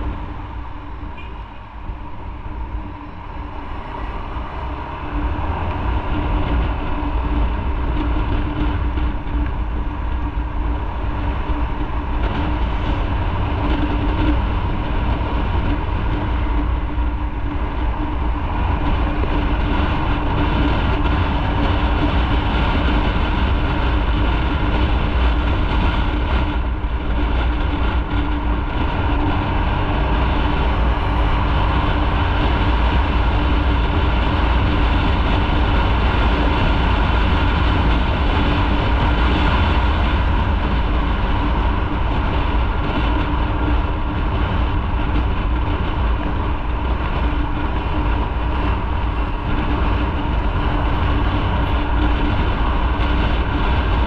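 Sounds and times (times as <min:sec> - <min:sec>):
motorcycle engine cruising: 0:00.0 - 0:54.0
wind rumble on microphone: 0:00.0 - 0:54.0.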